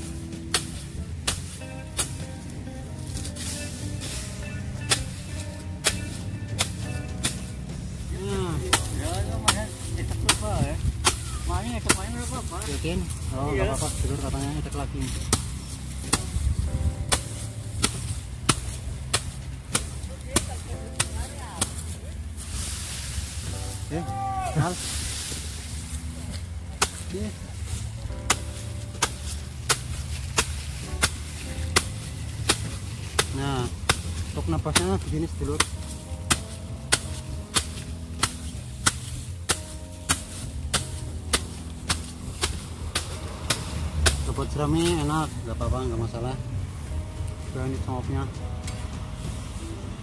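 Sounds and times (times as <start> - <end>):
sickle cutting dry straw: 0.0 - 48.0, 48.6 - 50.0.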